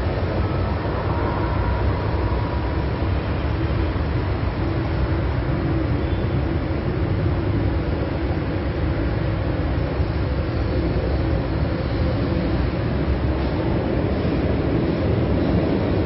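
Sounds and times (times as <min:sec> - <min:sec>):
train pulling into station: 0:00.0 - 0:16.0.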